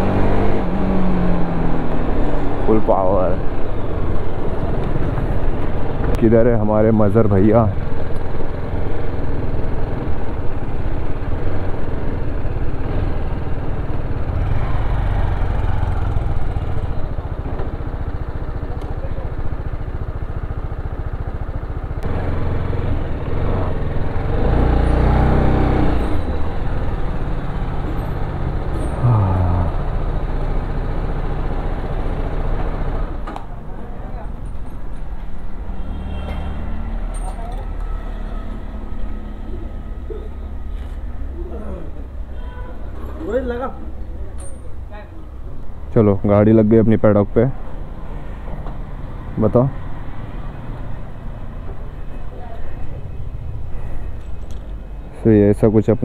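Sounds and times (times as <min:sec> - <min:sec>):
motorcycle engine rumbling: 0:00.0 - 0:55.7
road noise: 0:00.0 - 0:56.0.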